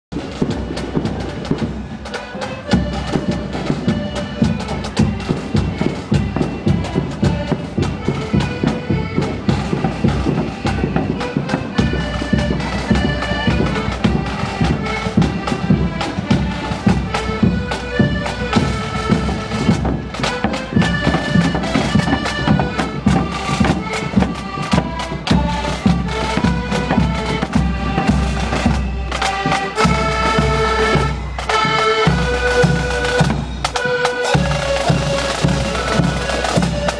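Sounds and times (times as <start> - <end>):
accordions playing melody: 0.1 - 36.9
bass drum and side drums: 0.1 - 36.9.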